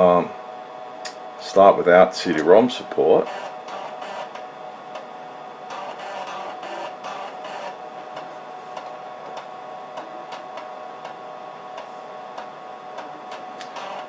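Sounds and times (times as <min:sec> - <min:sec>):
steady drive whir: 0:00.0 - 0:14.0.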